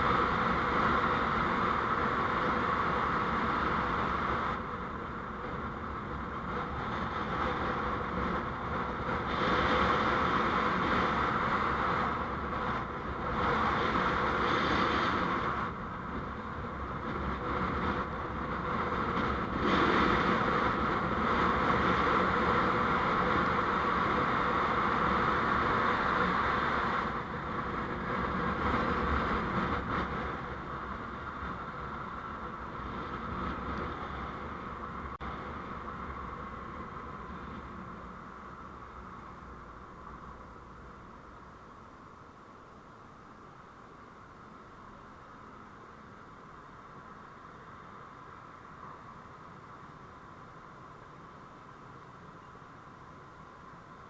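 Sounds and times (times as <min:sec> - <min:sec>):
vehicle road and engine noise: 0:00.0 - 0:54.0.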